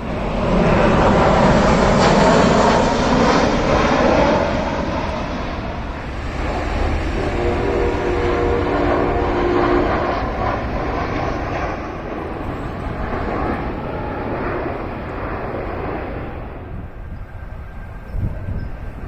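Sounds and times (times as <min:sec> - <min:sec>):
aeroplane flying over: 0:00.0 - 0:19.0.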